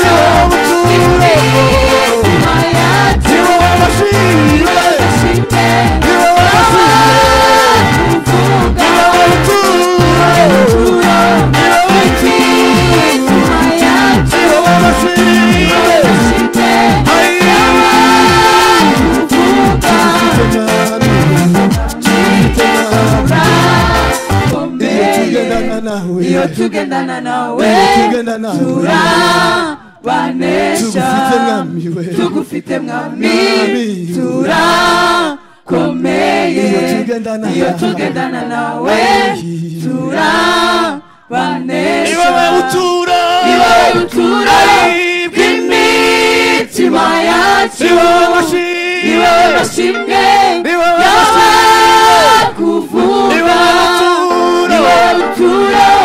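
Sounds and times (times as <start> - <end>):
group singing into microphones: 0.0 - 56.0.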